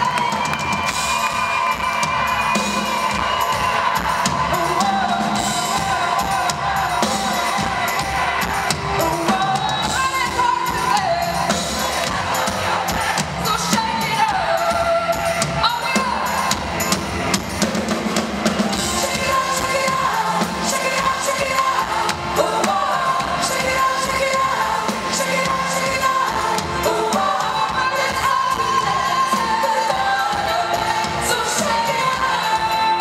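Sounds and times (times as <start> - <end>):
live pop band playing: 0.0 - 33.0
woman singing: 3.0 - 16.6, 18.7 - 33.0.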